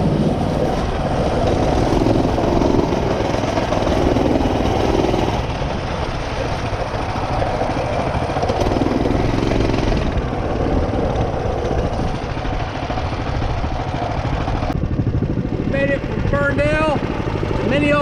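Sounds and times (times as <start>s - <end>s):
mini bike engine running: 0.0s - 18.0s.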